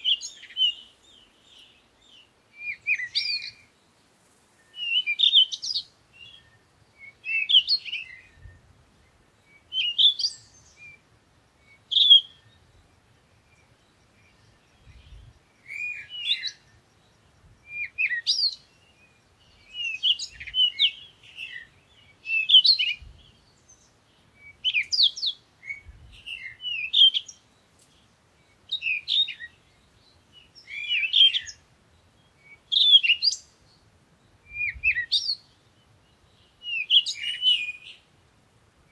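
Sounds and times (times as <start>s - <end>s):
bird singing chirping phrases: 0.0s - 4.0s, 4.6s - 38.3s.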